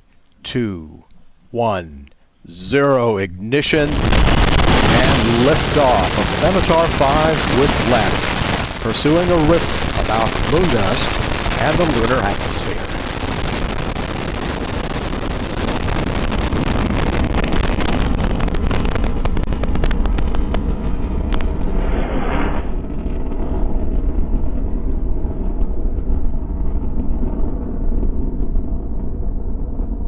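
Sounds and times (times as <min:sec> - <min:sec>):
rocket motor rumbling and crackling: 0:03.8 - 0:30.0.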